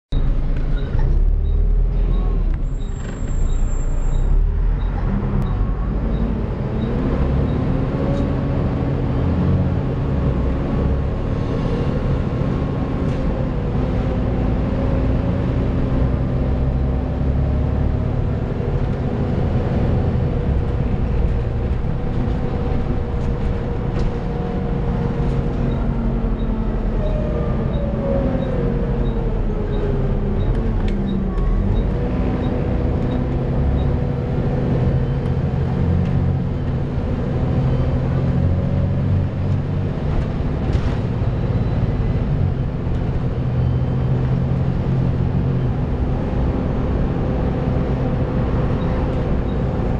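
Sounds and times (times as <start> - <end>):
bus drivetrain rumble: 0.1 - 49.9
bus drivetrain whine: 0.1 - 49.9.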